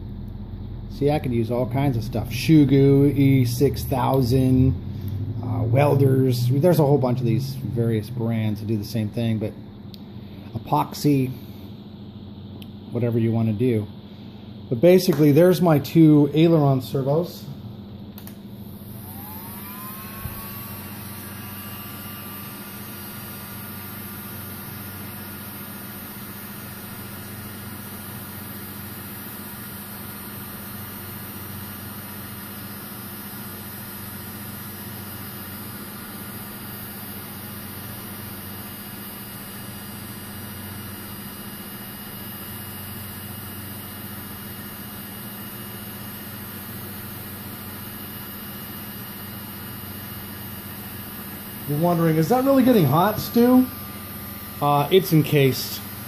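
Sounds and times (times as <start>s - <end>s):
heat gun fan whining: 0.0s - 56.0s.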